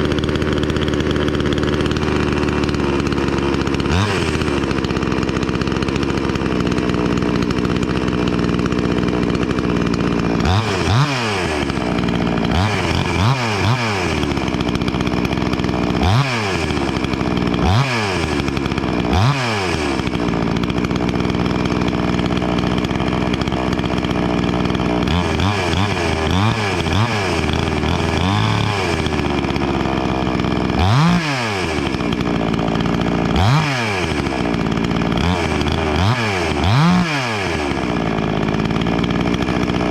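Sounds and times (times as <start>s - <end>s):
chainsaw running and revving: 0.0s - 39.9s.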